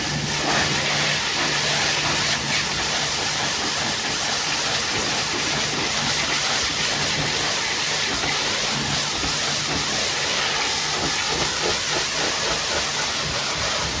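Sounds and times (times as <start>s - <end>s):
pressure washer water jet hissing: 0.0s - 14.0s.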